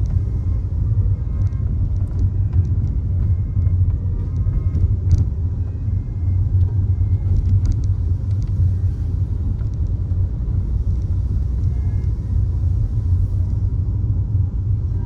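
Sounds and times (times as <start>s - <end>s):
car driving low rumble: 0.0s - 15.0s.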